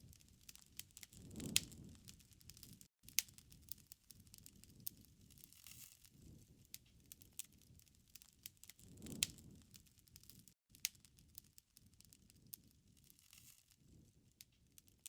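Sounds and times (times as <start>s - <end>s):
low rumble of flames: 0.0s - 13.2s, 13.8s - 14.9s
wood fire crackling: 0.0s - 15.0s.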